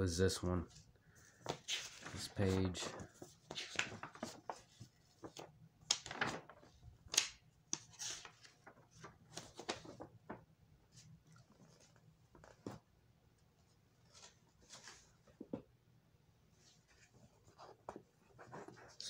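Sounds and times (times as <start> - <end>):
book pages rustling: 0.7 - 13.0, 13.6 - 15.7, 16.6 - 19.0.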